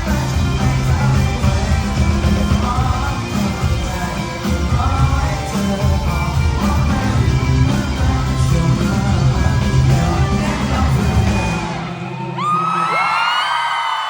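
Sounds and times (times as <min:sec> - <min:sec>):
rock band playing: 0:00.0 - 0:12.7
person singing: 0:00.0 - 0:13.7.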